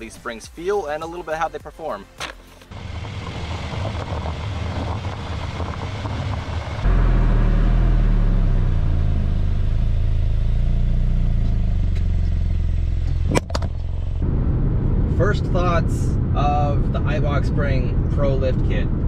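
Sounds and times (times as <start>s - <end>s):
road and wind rumble: 2.1s - 19.0s
tyres rumbling on pavement: 2.7s - 18.2s.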